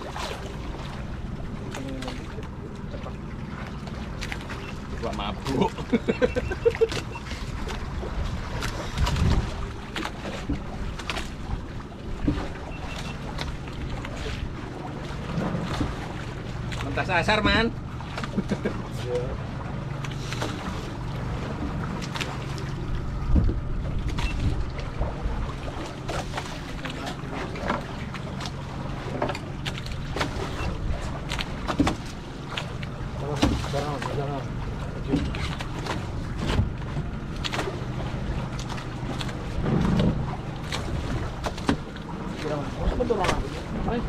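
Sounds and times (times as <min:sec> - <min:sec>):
boat engine hum: 0:00.0 - 0:44.0
water: 0:00.0 - 0:44.0
wind: 0:00.0 - 0:44.0.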